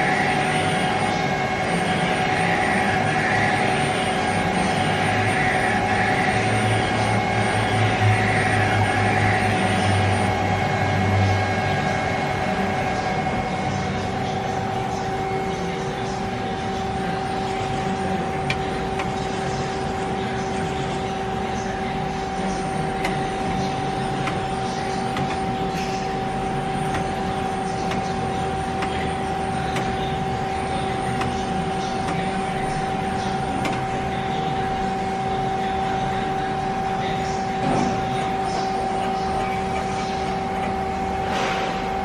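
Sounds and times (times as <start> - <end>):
lathe whining: 0.0 - 42.0
low machinery hum: 0.0 - 42.0.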